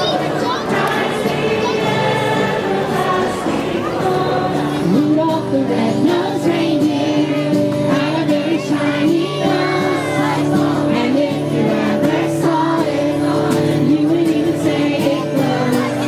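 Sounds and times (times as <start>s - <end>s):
group singing carol: 0.0s - 16.0s.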